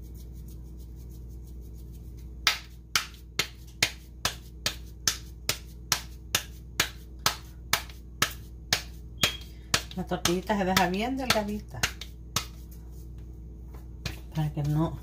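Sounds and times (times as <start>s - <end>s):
hands slapping dough: 0.0s - 15.0s.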